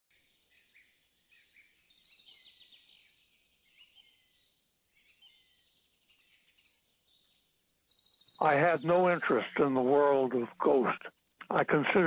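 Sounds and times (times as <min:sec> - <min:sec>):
birds chirping high-pitched: 0:00.1 - 0:12.0
rapid bird trill: 0:00.4 - 0:12.0.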